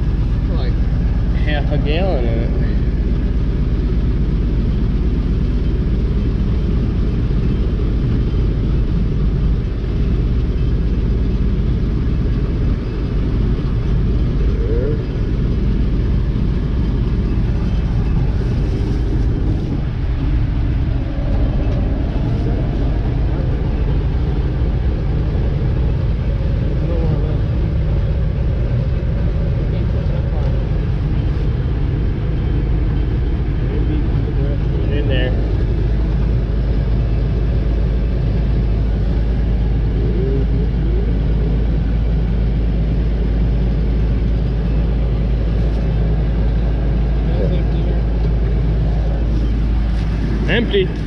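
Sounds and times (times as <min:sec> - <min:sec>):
large diesel engine idling: 0:00.0 - 0:51.0.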